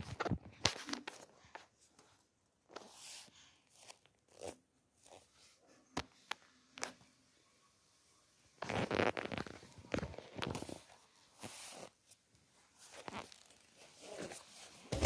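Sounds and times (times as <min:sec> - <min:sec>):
rustles and crinkles: 0:00.0 - 0:07.4, 0:08.5 - 0:15.0.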